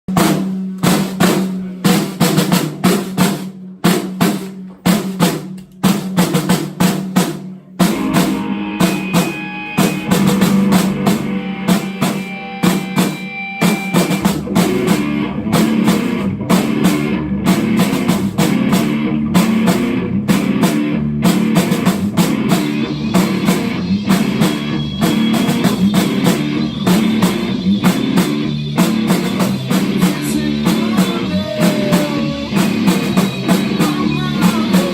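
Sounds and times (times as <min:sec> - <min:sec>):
drum kit playing: 0:00.0 - 0:34.9
rock band playing with guitars: 0:00.1 - 0:34.9.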